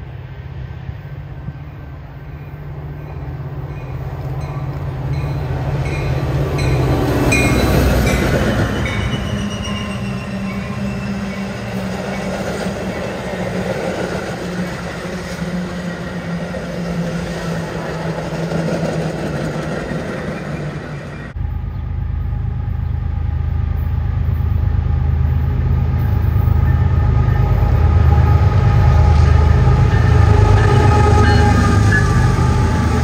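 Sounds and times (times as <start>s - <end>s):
diesel locomotives approaching: 0.0s - 33.0s
train coaches rolling on rails: 1.3s - 23.0s, 23.8s - 33.0s.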